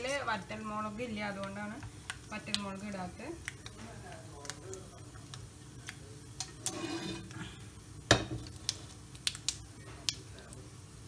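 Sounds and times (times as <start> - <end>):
mustard seeds popping in oil: 0.0 - 6.8, 8.0 - 10.7.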